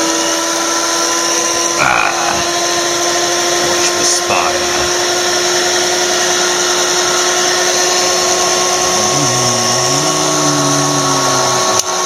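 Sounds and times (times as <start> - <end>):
hairdryer fan whirring: 0.0 - 12.0.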